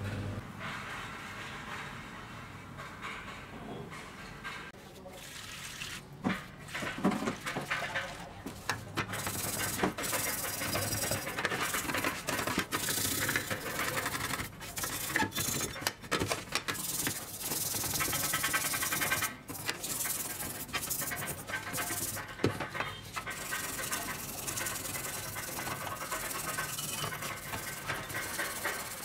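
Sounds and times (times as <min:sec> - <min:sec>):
scouring pad scrubbing metal: 0:04.9 - 0:29.0.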